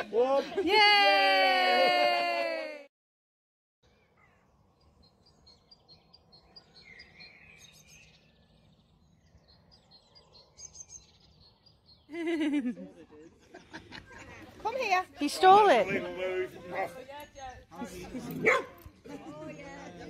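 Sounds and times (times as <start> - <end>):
birds chirping: 3.8 - 20.0.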